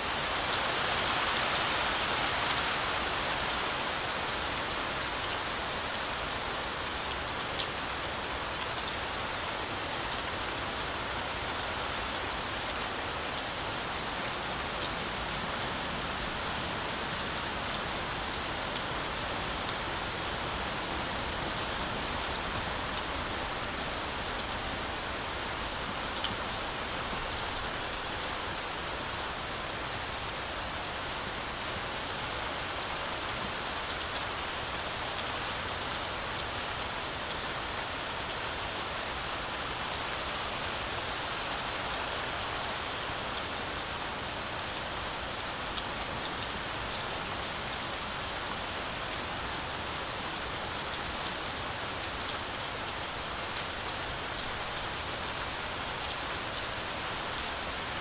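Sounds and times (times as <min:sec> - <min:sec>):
heavy rain on forest canopy: 0:00.0 - 0:58.0.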